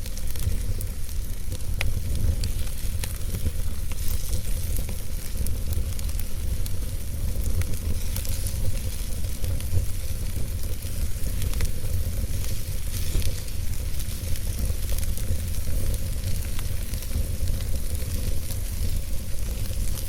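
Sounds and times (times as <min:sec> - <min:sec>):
fire rumbling and hissing: 0:00.0 - 0:20.0
logs crackling and popping: 0:00.0 - 0:20.0.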